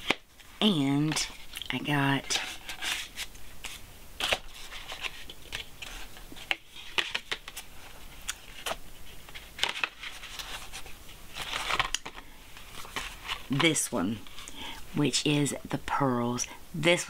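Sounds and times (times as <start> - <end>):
cardboard and paper rustling: 0.0 - 14.5.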